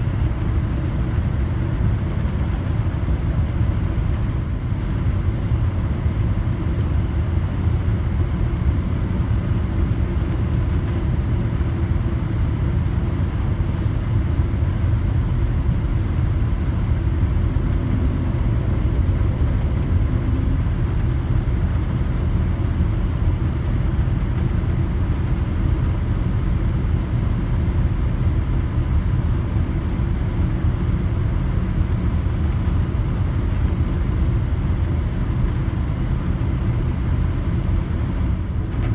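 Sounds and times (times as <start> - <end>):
aircraft cabin engine rumble: 0.0 - 38.9
faint steady hum: 0.0 - 38.9.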